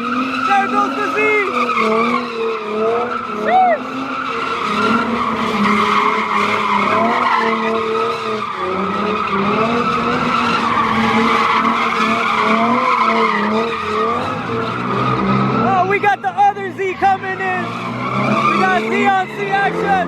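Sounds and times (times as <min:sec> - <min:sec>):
car engine revving: 0:00.0 - 0:20.0
tyres screeching: 0:00.0 - 0:20.0.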